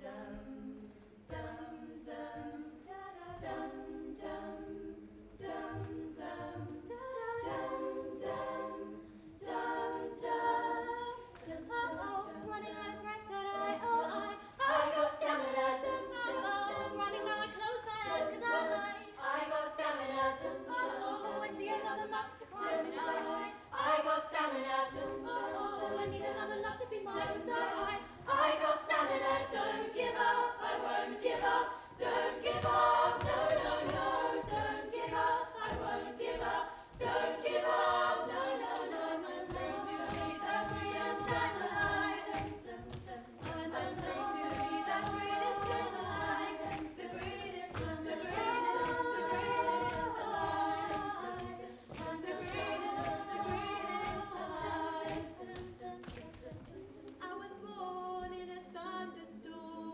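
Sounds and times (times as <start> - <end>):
female choir singing a cappella: 0.0 - 59.9.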